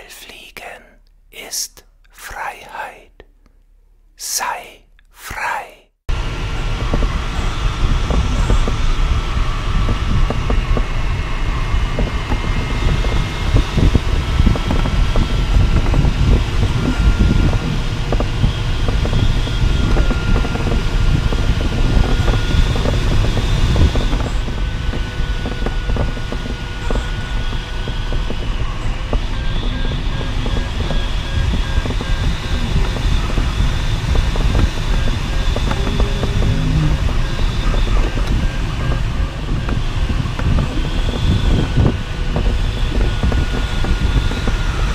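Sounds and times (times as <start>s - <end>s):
airflow rushing past cockpit: 6.1s - 44.9s
wind buffeting on microphone: 6.1s - 44.9s.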